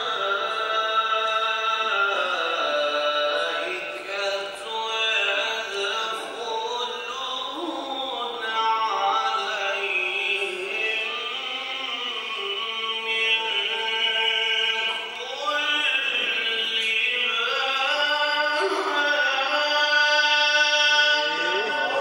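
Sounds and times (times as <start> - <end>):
man chanting into microphone: 0.0 - 22.0.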